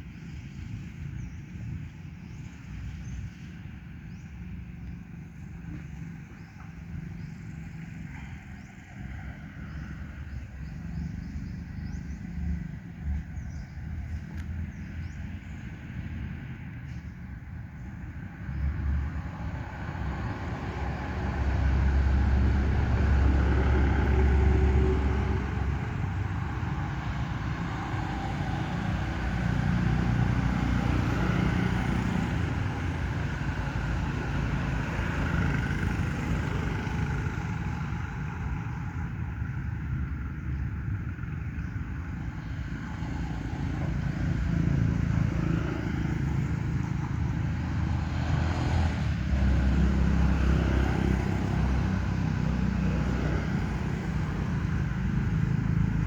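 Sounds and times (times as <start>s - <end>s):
passing motor vehicles rumbling: 0.0s - 56.0s.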